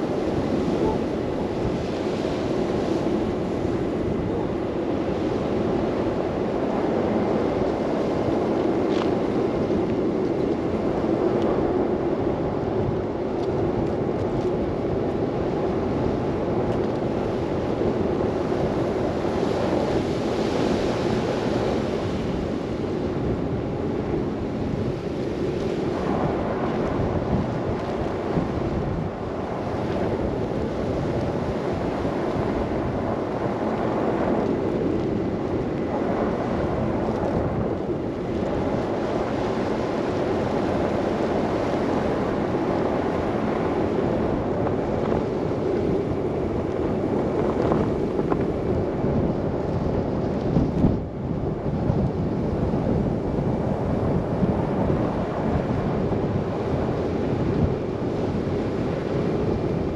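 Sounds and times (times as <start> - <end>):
wind and road noise: 0.0 - 59.9
wind buffeting microphone: 0.0 - 59.9.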